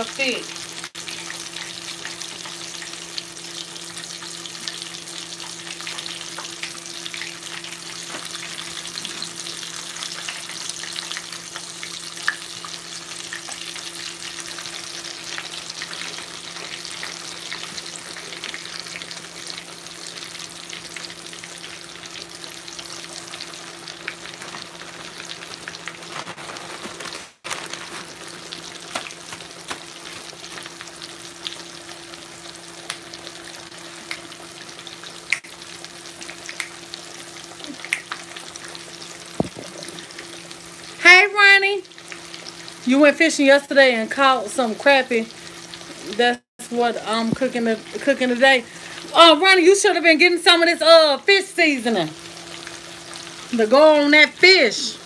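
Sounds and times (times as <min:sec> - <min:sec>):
oil sizzling and popping: 0:00.0 - 0:55.0.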